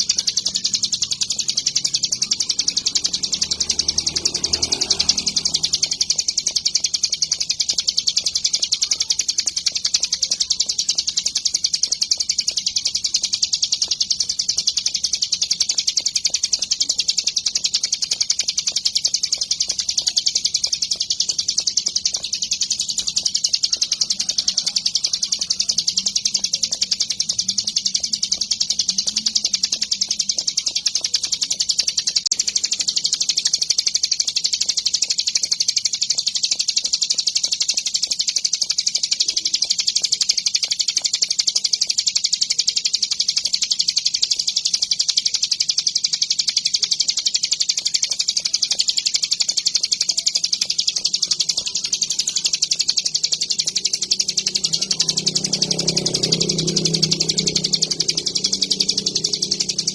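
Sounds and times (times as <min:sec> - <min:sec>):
bird singing rapid chirps: 0:00.0 - 0:59.9.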